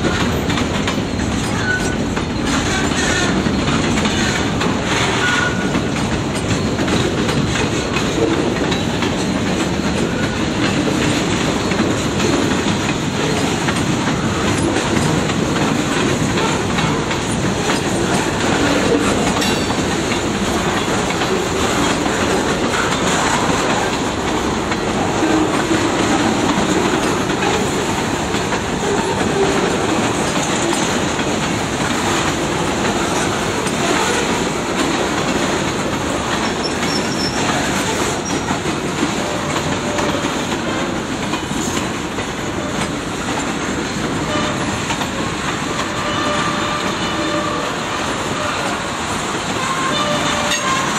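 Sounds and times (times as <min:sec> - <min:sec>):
freight train wheels on rails: 0:00.0 - 0:50.9.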